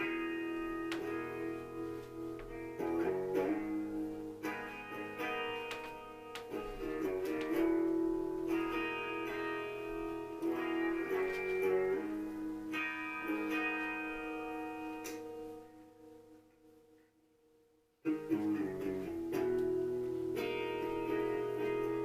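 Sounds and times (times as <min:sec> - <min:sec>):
electric guitar melody: 0:00.0 - 0:17.1, 0:18.0 - 0:22.0.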